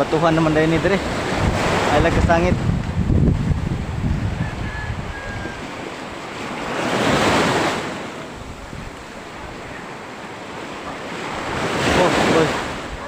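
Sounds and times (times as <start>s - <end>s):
surf breaking on shore: 0.0s - 13.0s.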